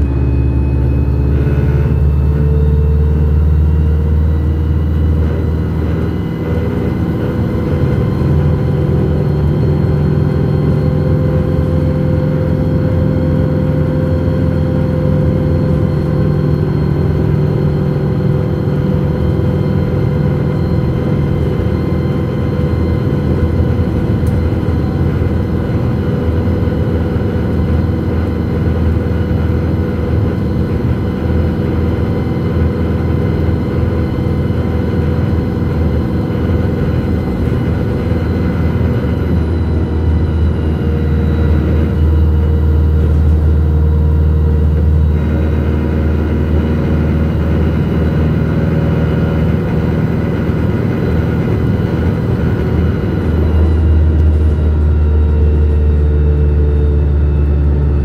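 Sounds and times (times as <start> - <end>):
tyres rumbling on road: 0.0 - 56.4
bus engine drone: 0.0 - 58.0.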